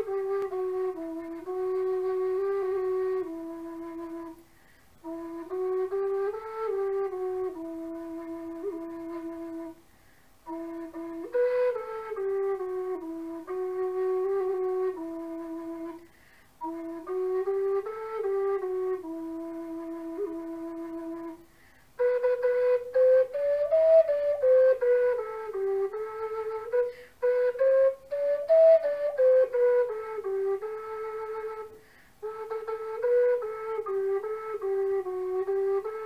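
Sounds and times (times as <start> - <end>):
low whistle playing slow melody: 0.0 - 36.0.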